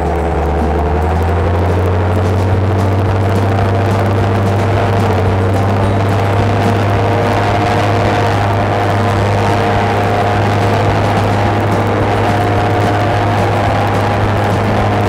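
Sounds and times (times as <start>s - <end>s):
paramotor engine droning: 0.0s - 15.0s.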